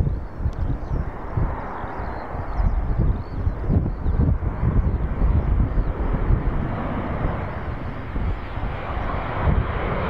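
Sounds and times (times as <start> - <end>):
jet engines rushing: 0.0 - 10.0
wind buffeting microphone: 0.0 - 10.0.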